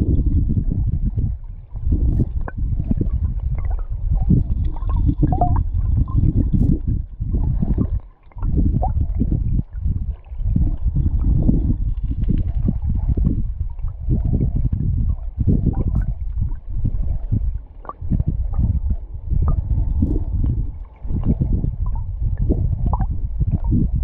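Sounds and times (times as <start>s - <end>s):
underwater river current rushing: 0.9s - 24.0s.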